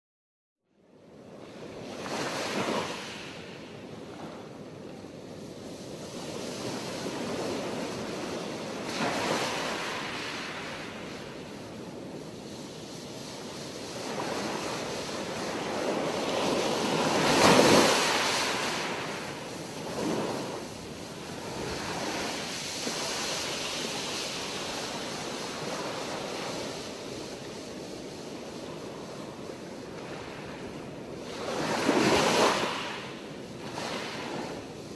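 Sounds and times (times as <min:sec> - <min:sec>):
ocean waves breaking: 0:01.3 - 0:34.9.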